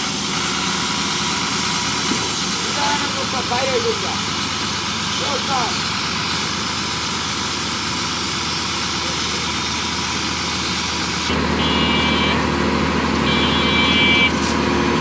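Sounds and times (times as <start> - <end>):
machinery engines running: 0.0 - 15.0.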